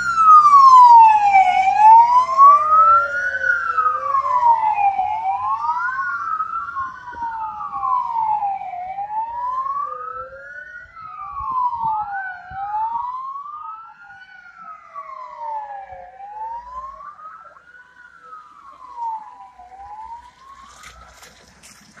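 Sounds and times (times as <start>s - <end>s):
fire engine sirens wailing: 0.0s - 22.0s.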